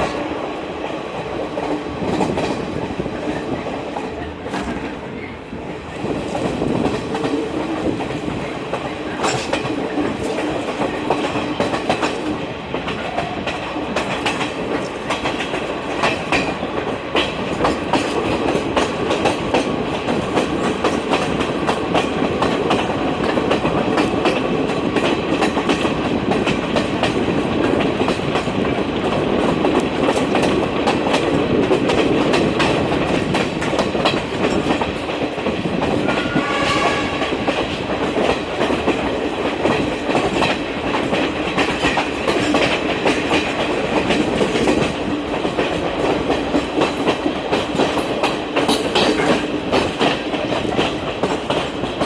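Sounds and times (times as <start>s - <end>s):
train wheels clattering on rails: 0.0s - 52.0s.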